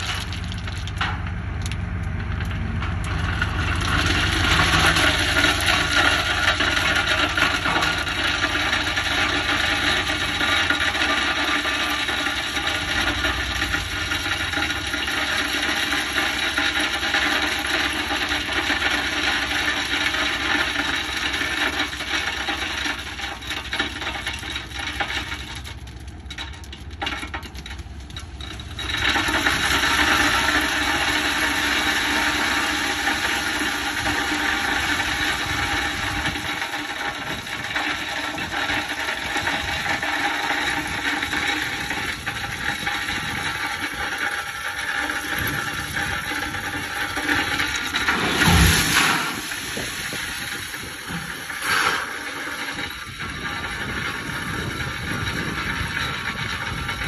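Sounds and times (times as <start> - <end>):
crushed rock clattering onto pavement: 0.0 - 57.0
truck engine running: 0.0 - 57.0.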